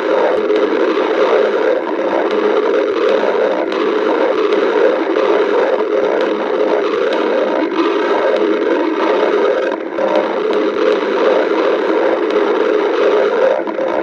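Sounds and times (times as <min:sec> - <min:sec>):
stomach growling and gurgling: 0:00.0 - 0:14.0.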